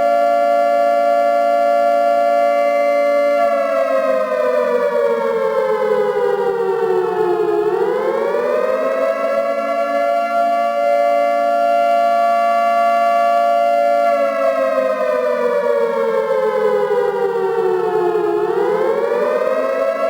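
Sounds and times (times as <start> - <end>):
civil defence siren: 0.0 - 20.0.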